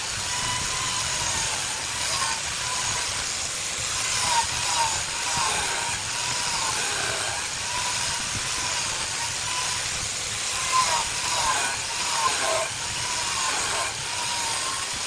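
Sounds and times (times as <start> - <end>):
lathe motor whine: 0.0 - 15.0
lathe tool cutting wood: 0.0 - 15.0.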